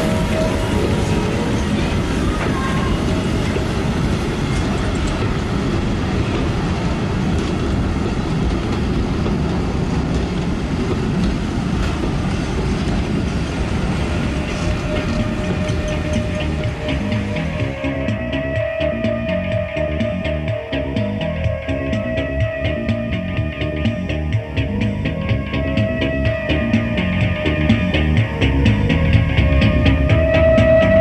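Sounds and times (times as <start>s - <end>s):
steam train running on track: 0.0s - 31.0s.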